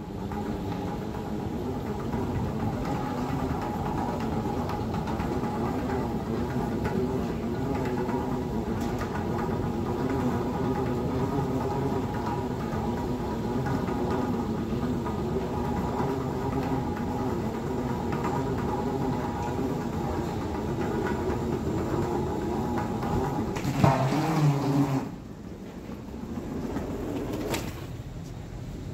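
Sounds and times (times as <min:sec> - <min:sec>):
low mechanical rumble: 0:00.0 - 0:28.9.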